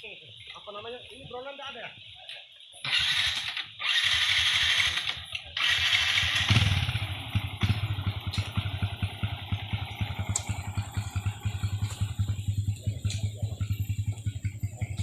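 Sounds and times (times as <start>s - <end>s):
motorcycle engine running: 2.9s - 15.0s.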